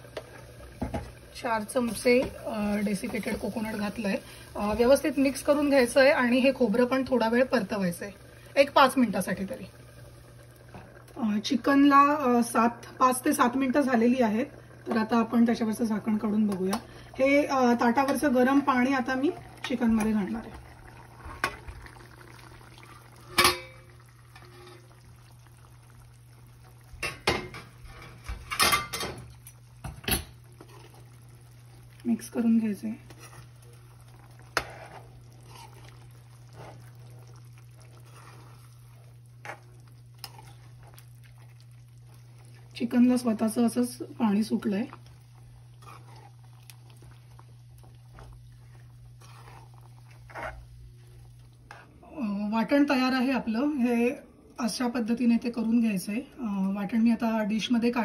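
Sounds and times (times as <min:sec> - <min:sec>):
spoon stirring in frying pan: 0:00.0 - 0:15.4, 0:16.0 - 0:51.9
steady low hum: 0:00.0 - 0:57.0.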